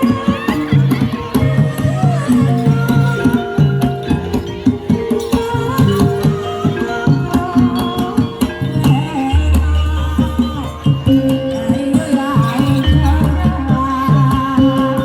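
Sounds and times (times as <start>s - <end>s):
gamelan-style tones: 0.0s - 15.0s
rapid hand-drum strokes: 0.0s - 15.0s
wavering melody line: 0.0s - 15.0s.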